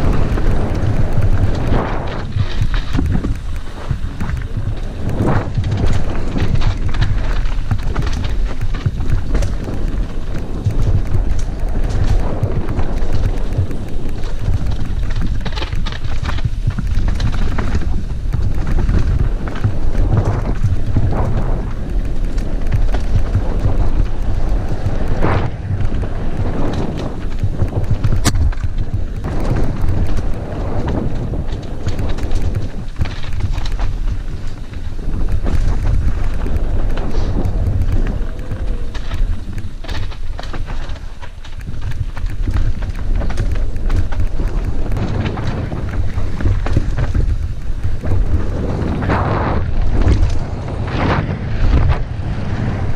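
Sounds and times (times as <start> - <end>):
bike knocking on rocks: 0.0 - 52.1
tyres crunching over loose stones: 0.0 - 52.9
wind buffeting microphone: 0.0 - 52.9.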